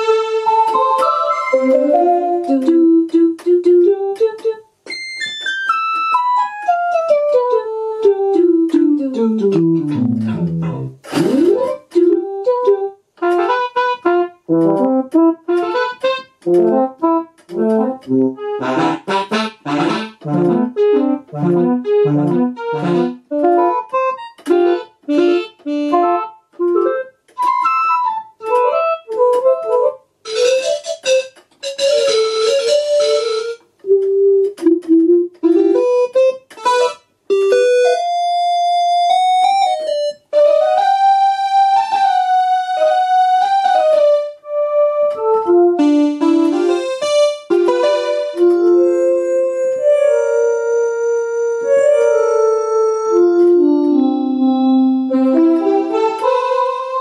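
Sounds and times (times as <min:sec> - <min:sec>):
electronic keyboard playing notes: 0:00.0 - 0:57.0.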